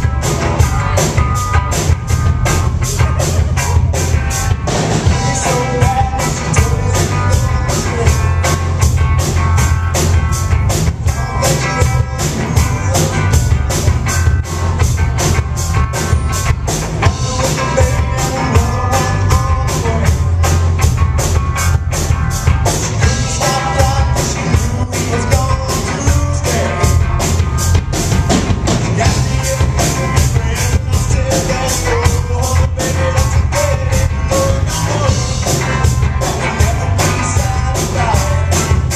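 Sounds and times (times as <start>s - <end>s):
bass line: 0.0s - 38.9s
fast drum beat: 0.0s - 38.9s
rock music: 0.0s - 38.9s.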